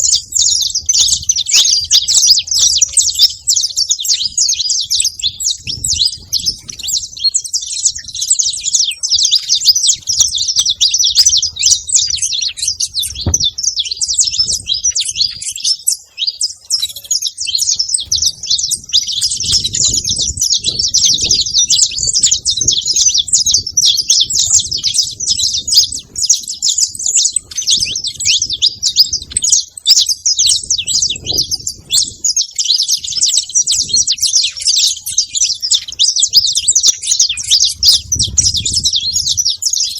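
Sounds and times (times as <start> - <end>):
finches chirping and chattering: 0.0 - 39.9.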